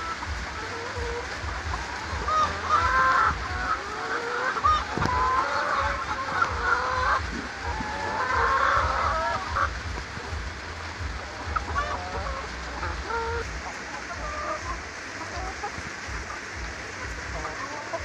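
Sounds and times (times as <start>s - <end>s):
hen clucking: 0.0s - 18.0s.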